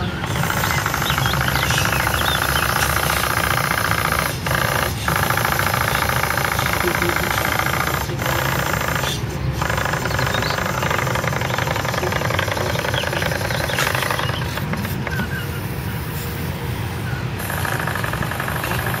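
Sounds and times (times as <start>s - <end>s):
hissing exhaust steam: 0.0s - 19.0s
steam engine chuffing: 0.0s - 19.0s.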